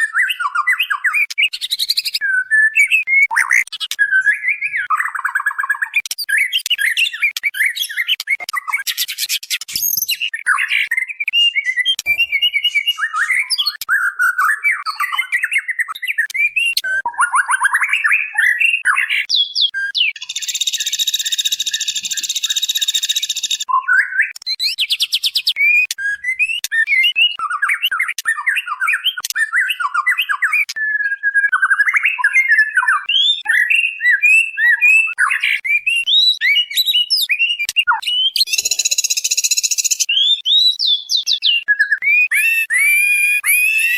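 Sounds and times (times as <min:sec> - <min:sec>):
bird whistling and chattering: 0:00.0 - 0:43.9.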